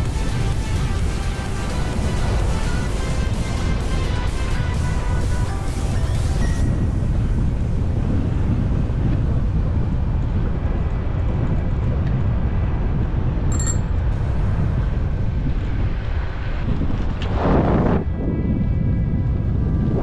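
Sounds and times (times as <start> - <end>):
bicycle whir: 0.0 - 20.0
wind buffeting microphone: 0.0 - 20.0.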